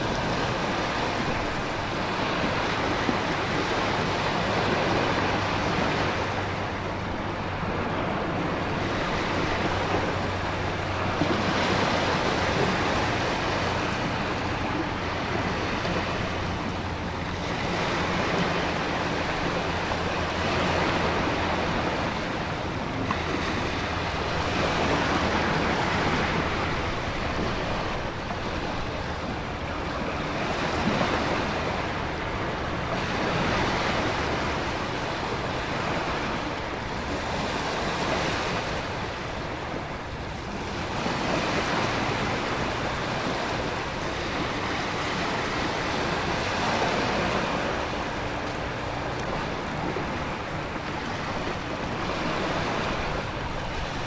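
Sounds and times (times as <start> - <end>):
crashing ocean waves: 0.0 - 54.0
wind: 0.0 - 54.0
wind-driven rain: 0.0 - 54.0.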